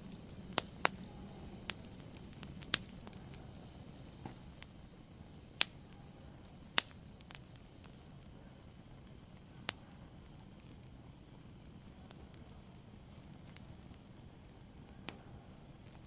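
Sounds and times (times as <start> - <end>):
fire crackling and popping: 0.0 - 16.0
fire hissing: 0.0 - 16.0.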